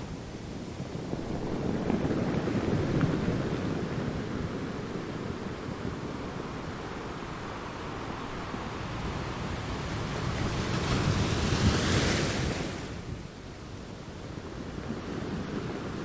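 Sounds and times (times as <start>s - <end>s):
ocean waves breaking: 0.0s - 13.3s.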